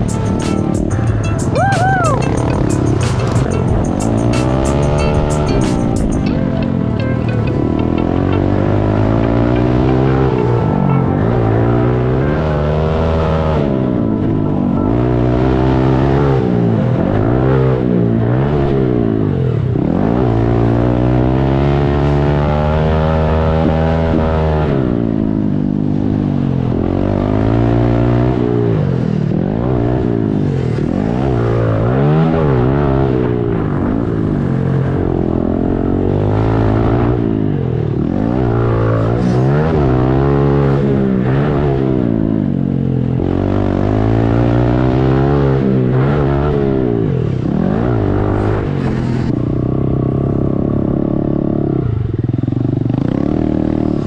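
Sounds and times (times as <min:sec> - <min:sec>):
pit bike engines revving: 0:00.0 - 0:06.4, 0:07.2 - 0:54.0.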